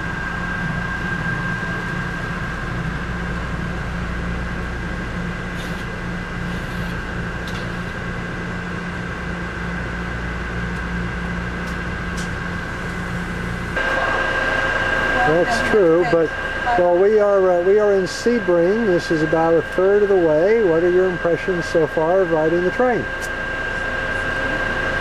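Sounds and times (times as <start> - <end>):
train car mechanical hum: 0.0 - 25.0.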